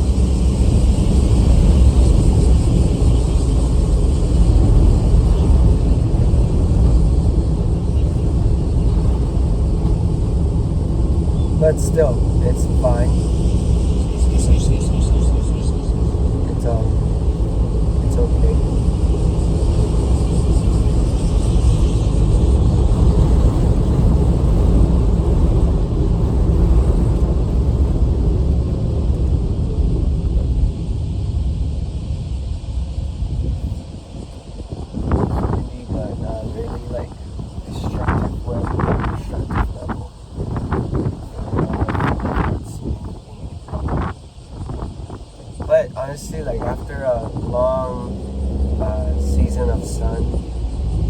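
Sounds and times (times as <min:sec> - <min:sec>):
strong wind buffeting microphone: 0:00.0 - 0:51.0.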